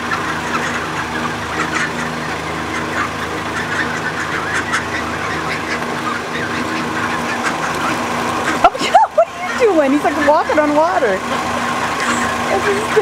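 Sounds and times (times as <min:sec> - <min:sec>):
geese and ducks calling: 0:00.0 - 0:13.0
steady low hum: 0:00.0 - 0:13.0.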